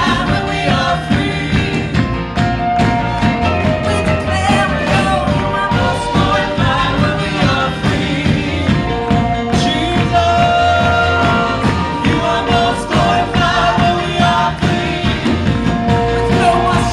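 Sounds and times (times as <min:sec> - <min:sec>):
band playing: 0:00.0 - 0:16.9
people singing: 0:00.0 - 0:16.9
steady drum beat: 0:00.0 - 0:16.9.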